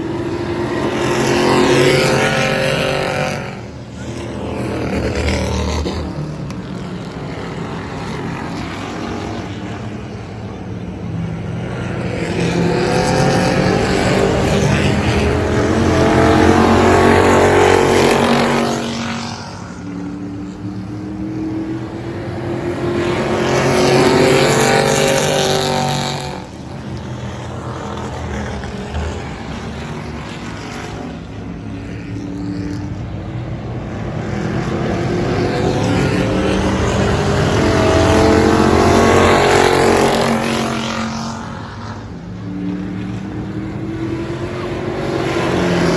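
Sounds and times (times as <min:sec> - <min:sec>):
low steady engine drone: 0:00.0 - 0:45.9
race car engines passing: 0:00.0 - 0:45.9.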